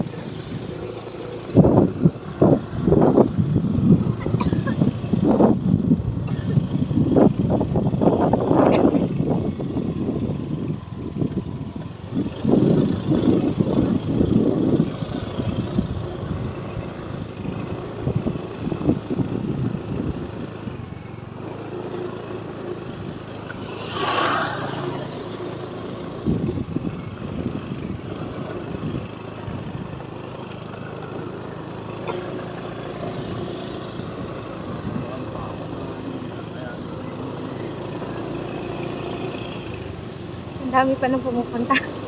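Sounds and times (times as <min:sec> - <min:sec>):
vehicle rumbling on rocky road: 0:00.0 - 0:42.0.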